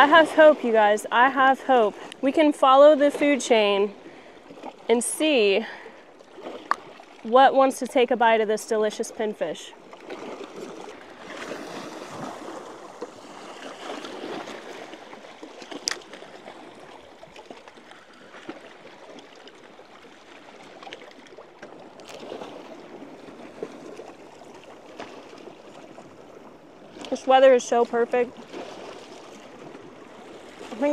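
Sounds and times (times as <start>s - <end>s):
waves lapping against rocks: 0.0s - 30.9s.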